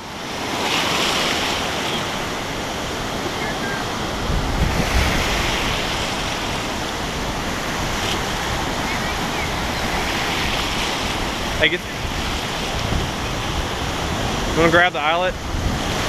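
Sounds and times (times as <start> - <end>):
ocean surf washing: 0.0 - 16.0
wind on microphone: 0.0 - 16.0.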